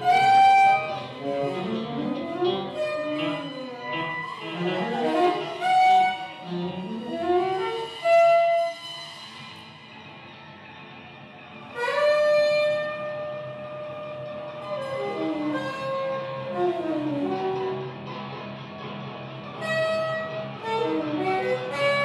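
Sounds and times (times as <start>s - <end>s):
ensemble led by bowed strings: 0.0s - 22.0s.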